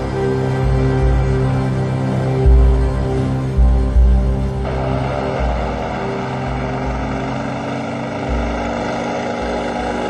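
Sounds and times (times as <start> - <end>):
propeller aircraft engine droning: 0.0 - 10.0.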